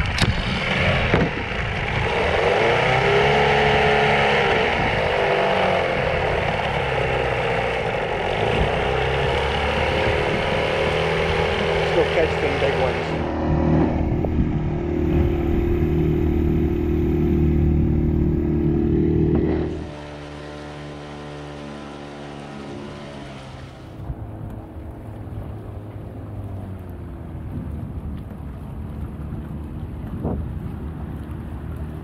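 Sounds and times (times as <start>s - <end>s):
wind noise: 0.0s - 18.7s, 24.0s - 32.0s
outboard motor running: 0.0s - 32.0s
water wash: 0.0s - 32.0s.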